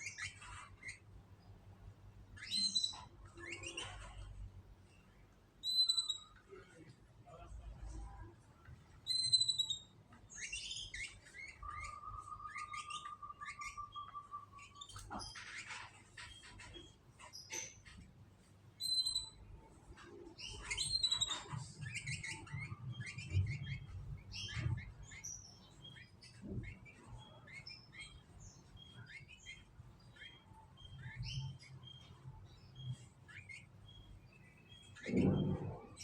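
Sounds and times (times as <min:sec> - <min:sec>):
canaries chirping and trilling: 0:00.0 - 0:36.0
faint low hum: 0:00.0 - 0:36.0.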